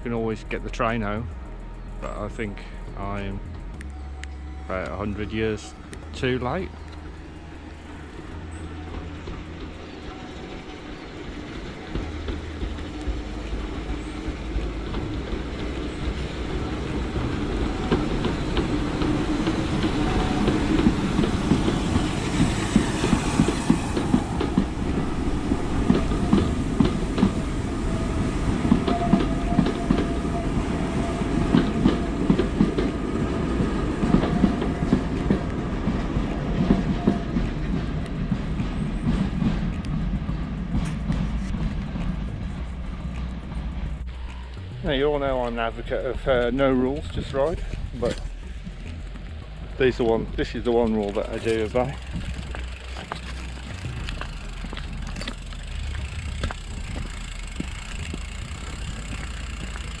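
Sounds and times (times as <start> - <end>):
steam train wheels clacking: 4.8 - 60.0.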